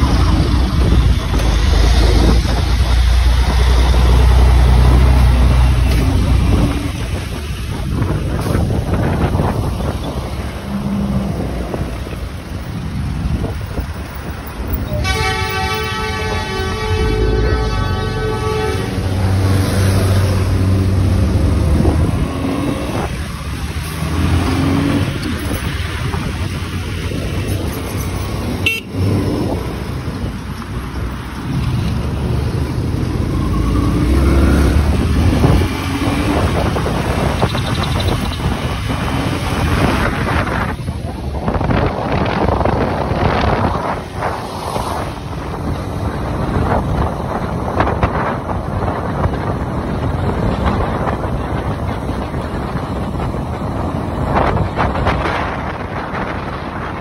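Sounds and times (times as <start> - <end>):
vehicle engine with road noise: 0.0 - 57.0
wind buffeting microphone: 0.0 - 57.0.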